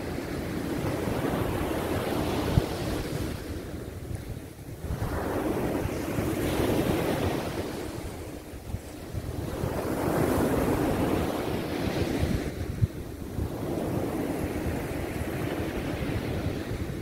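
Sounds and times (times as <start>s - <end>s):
sea waves breaking on beach: 0.0s - 17.0s
wind buffeting microphone: 0.0s - 17.0s.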